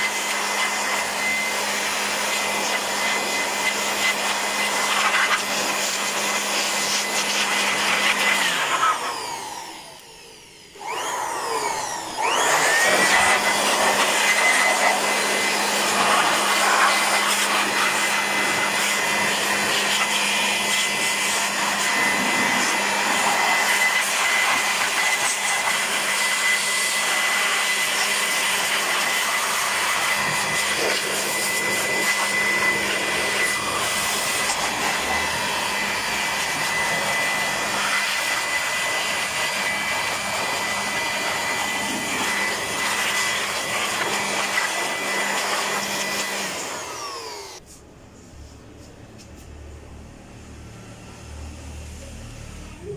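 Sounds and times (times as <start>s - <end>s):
electric blower whining: 0.0s - 47.6s.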